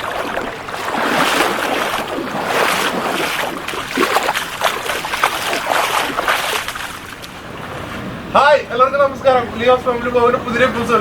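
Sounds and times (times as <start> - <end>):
floodwater rushing: 0.0 - 9.8.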